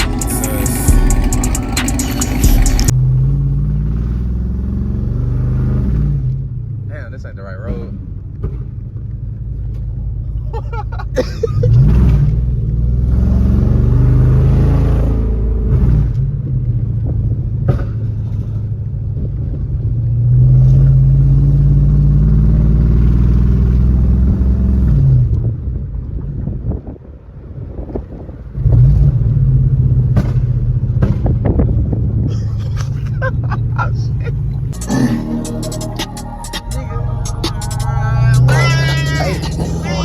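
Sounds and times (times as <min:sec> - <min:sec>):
car engine accelerating: 0:00.0 - 0:10.3, 0:11.1 - 0:25.8, 0:31.6 - 0:40.0.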